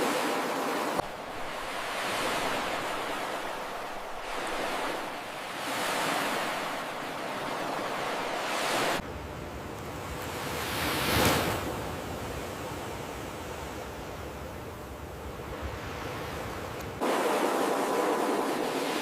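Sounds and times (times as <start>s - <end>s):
ocean waves breaking on beach: 0.0s - 19.0s.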